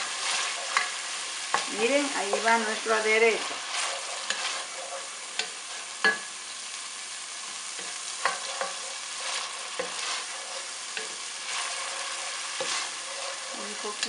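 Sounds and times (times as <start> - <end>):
wooden spoon stirring and scraping: 0.0 - 6.2, 7.5 - 14.0
onion frying in oil: 0.0 - 14.0.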